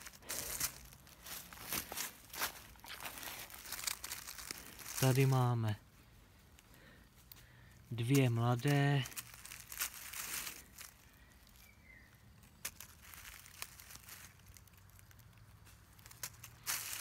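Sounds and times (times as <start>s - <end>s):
leaf litter rustling and crinkling: 0.0s - 17.0s.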